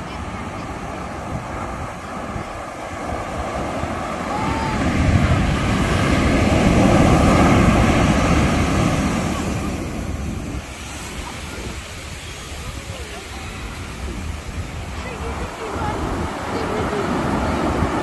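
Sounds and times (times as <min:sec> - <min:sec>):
ocean waves crashing on beach: 0:00.0 - 0:18.0.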